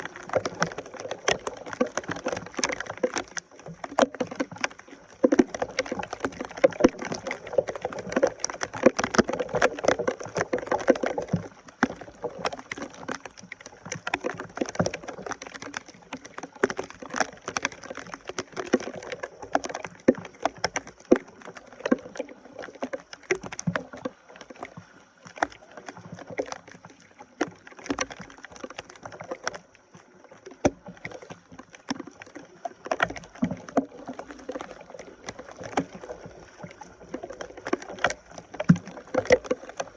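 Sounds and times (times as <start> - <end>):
water sloshing and splashing: 0.0 - 39.9.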